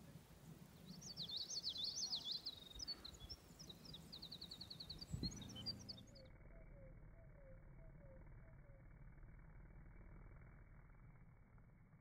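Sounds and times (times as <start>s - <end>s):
songbird singing: 0.0s - 11.3s.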